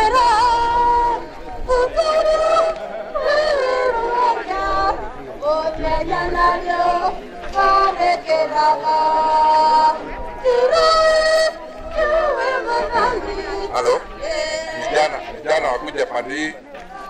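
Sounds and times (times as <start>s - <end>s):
voices singing a slow song: 0.0s - 17.0s.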